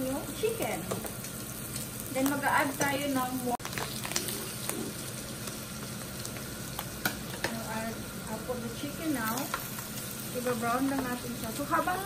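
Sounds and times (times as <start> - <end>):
chicken sizzling in pan: 0.0 - 12.0.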